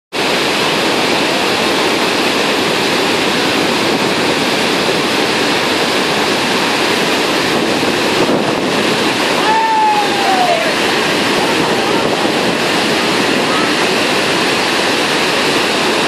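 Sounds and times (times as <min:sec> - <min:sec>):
roar of waterfall: 0:00.2 - 0:16.0.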